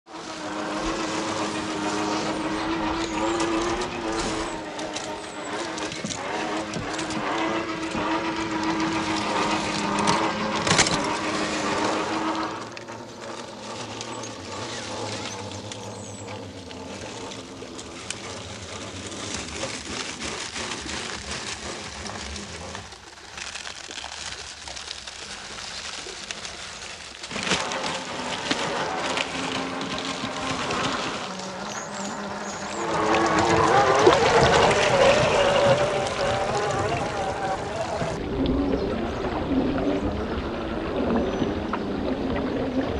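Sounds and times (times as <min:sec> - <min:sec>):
electric motor whining: 0:00.1 - 0:23.1, 0:27.2 - 0:39.5.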